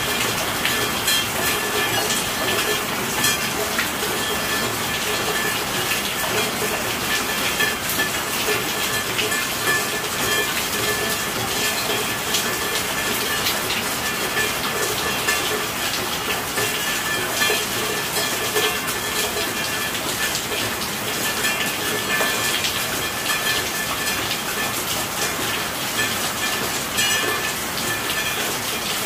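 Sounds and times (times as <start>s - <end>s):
raindrops ticking: 0.0s - 29.0s
steady rainfall: 0.0s - 29.0s.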